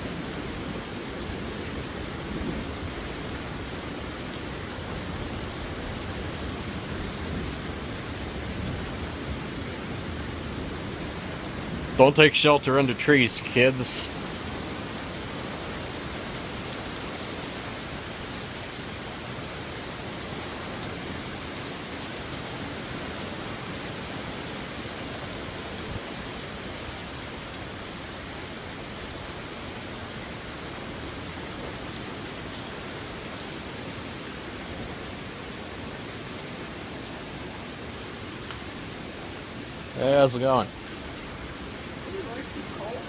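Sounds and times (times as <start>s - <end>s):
steady rain pouring: 0.0s - 43.0s.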